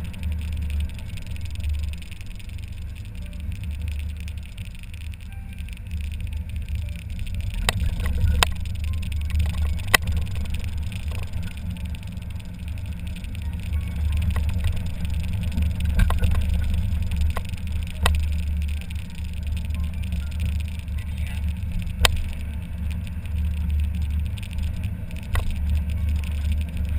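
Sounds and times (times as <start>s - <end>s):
car engine rumble: 0.0s - 26.9s
sharp clicks: 0.0s - 26.9s
wind: 0.0s - 26.9s.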